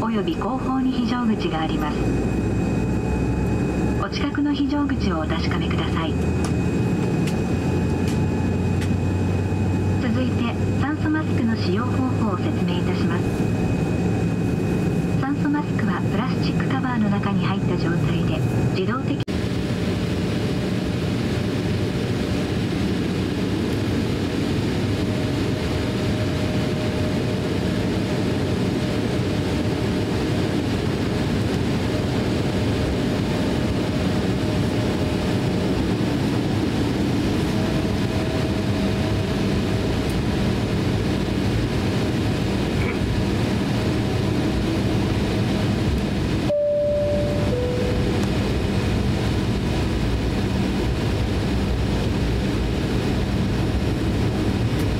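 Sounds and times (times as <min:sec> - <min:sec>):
aircraft rolling: 0:00.0 - 0:54.9
jet engines rumbling: 0:00.0 - 0:54.9.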